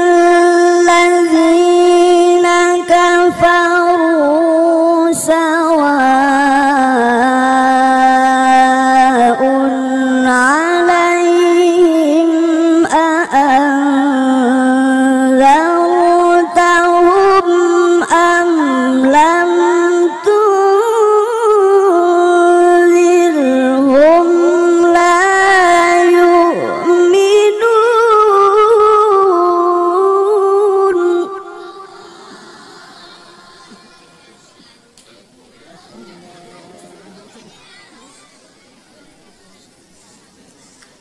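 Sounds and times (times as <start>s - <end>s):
person reciting melodically: 0.0s - 38.3s.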